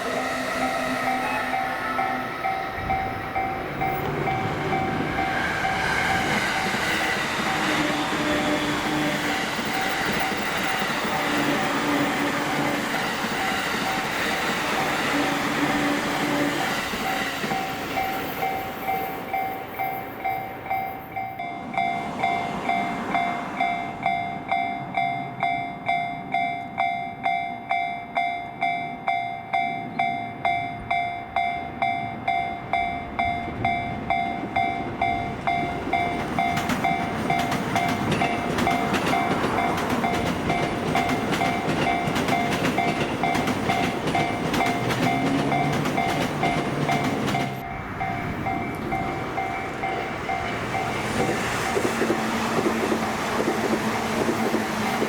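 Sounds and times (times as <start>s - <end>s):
train rumbling: 0.0s - 27.3s, 29.8s - 55.0s
level crossing warning bell ringing: 0.0s - 51.9s.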